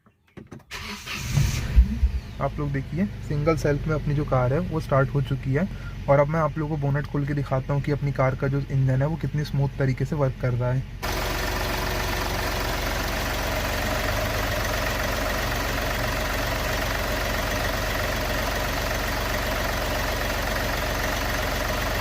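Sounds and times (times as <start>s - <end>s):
diesel engine idling: 0.7s - 22.0s.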